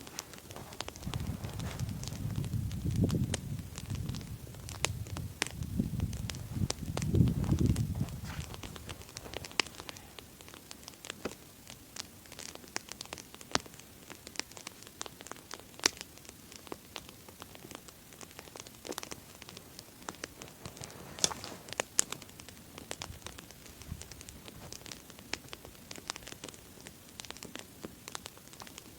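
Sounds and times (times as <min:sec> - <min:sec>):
campfire crackling and popping: 0:00.0 - 0:28.9
soft steady hiss: 0:00.0 - 0:28.9.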